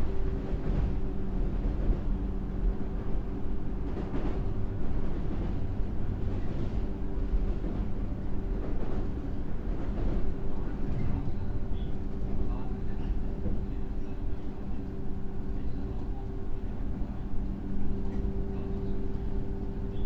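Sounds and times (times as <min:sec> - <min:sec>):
wheel-on-rail rumble: 0:00.0 - 0:20.0.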